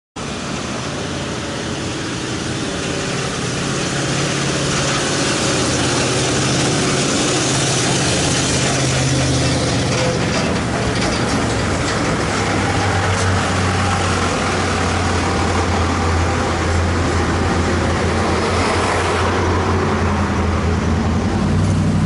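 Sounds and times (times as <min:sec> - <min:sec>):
truck engine: 0:00.2 - 0:22.0
wind and road noise: 0:00.2 - 0:22.0.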